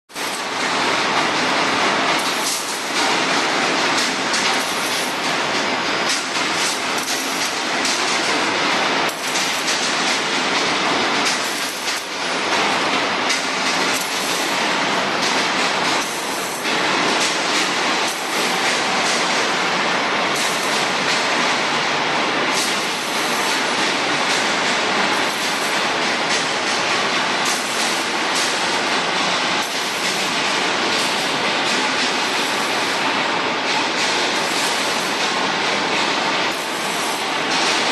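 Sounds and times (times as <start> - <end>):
irregular mechanical clatter: 0.1 - 37.9
welding machine running: 0.1 - 37.9.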